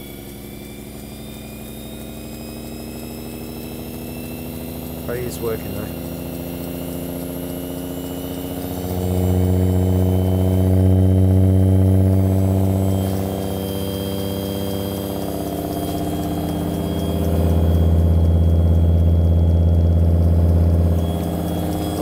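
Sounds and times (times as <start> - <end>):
air raid siren low tone: 0.0 - 22.0.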